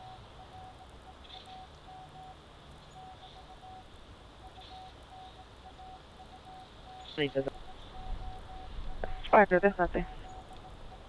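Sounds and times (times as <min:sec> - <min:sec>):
soft high chirp: 0:00.0 - 0:09.4, 0:10.0 - 0:11.0
thin beeping tone: 0:00.0 - 0:11.0.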